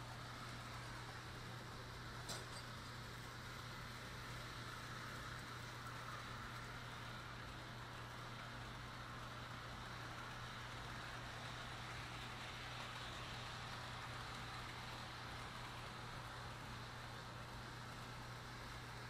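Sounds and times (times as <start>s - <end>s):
model train motor whirring: 0.0s - 19.0s
wheels rolling on rails: 0.0s - 19.0s.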